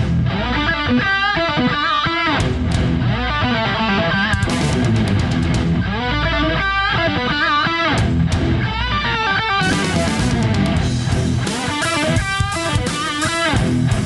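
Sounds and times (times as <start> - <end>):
bass guitar: 0.0 - 14.0
lead electric guitar melody: 0.0 - 14.0.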